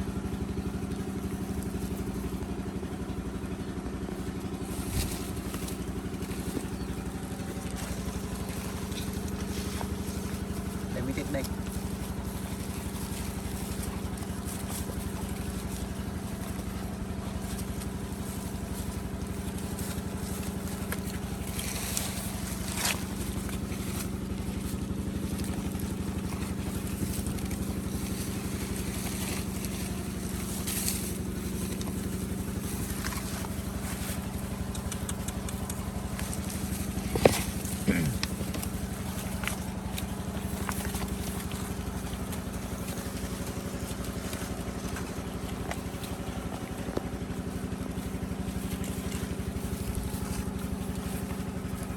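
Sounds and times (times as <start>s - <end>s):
low motor hum: 0.0s - 51.9s.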